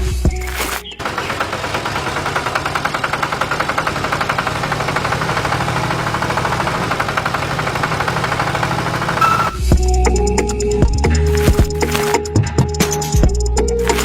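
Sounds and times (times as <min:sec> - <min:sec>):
small tractor engine chugging: 0:00.4 - 0:12.0.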